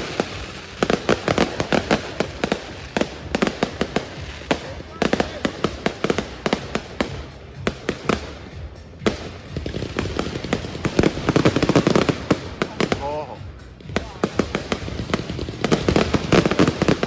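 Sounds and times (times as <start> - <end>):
fireworks cracking: 0.0 - 17.0.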